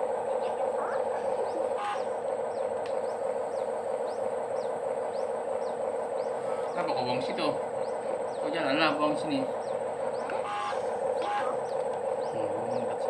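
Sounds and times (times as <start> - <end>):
bird chirping: 0.0 - 13.0
steady whirring hum: 0.0 - 13.0.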